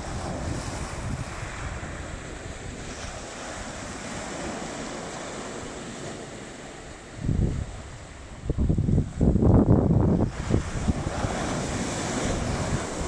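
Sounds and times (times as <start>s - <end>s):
waves washing over pebble beach: 0.0s - 8.4s, 9.0s - 13.0s.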